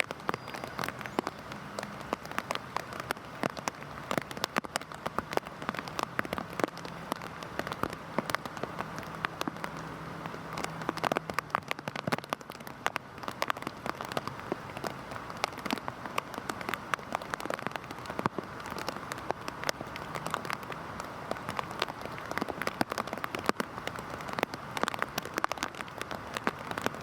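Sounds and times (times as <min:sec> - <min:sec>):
heavy rain pattering: 0:00.0 - 0:27.0.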